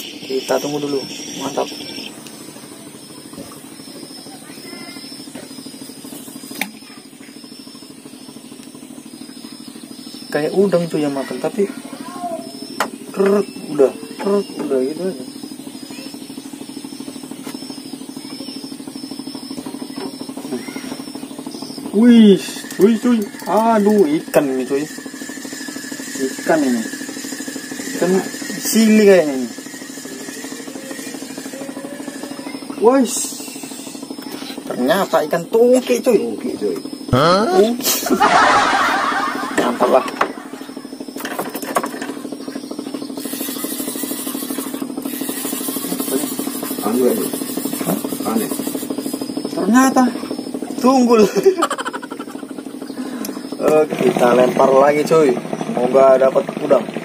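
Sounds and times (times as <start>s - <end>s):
small engine puttering: 0.0s - 57.0s.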